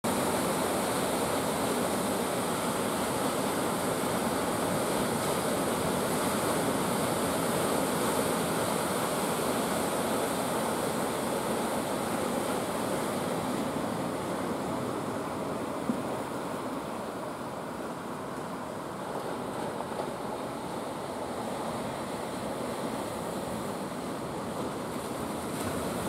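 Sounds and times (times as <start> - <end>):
waves breaking: 0.1 - 26.0.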